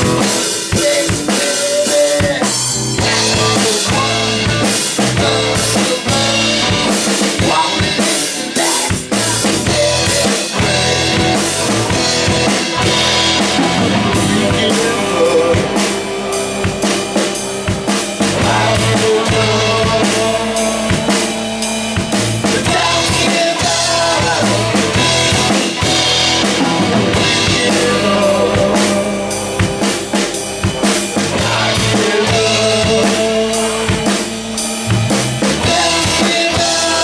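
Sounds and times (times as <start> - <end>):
drum kit beat: 0.0 - 37.0
rock band playing instrumental: 0.0 - 37.0.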